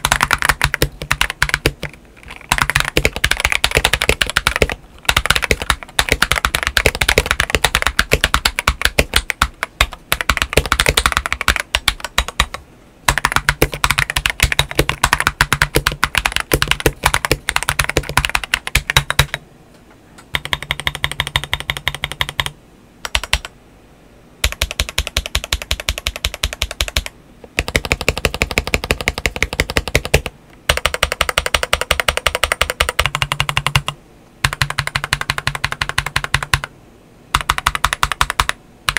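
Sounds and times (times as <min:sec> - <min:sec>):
fast mechanical keyboard typing: 0:00.0 - 0:19.4, 0:20.3 - 0:23.5, 0:24.4 - 0:36.7, 0:37.3 - 0:38.9.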